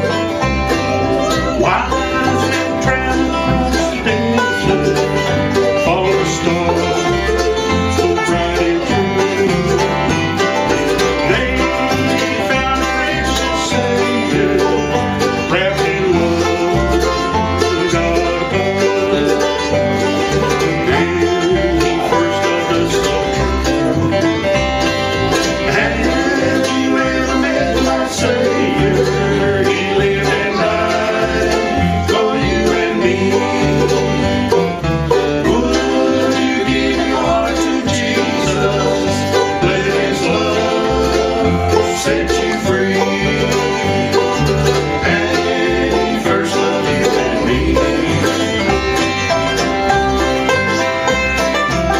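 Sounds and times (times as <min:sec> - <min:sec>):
banjo: 0:00.0 - 0:51.9
bluegrass band playing: 0:00.0 - 0:51.9
guitar: 0:00.0 - 0:51.9.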